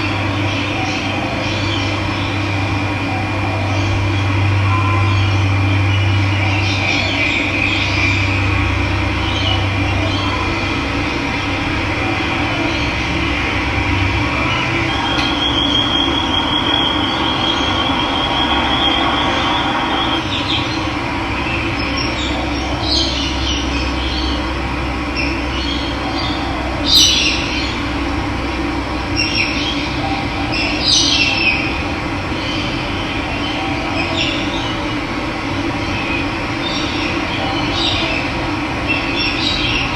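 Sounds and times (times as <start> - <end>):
birds calling: 0.0 - 28.2, 29.0 - 39.9.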